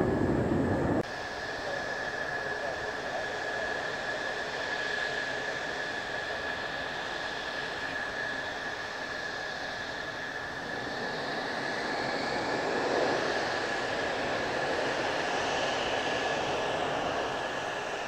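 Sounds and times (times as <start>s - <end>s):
jet engines whining and roaring: 0.0s - 18.0s.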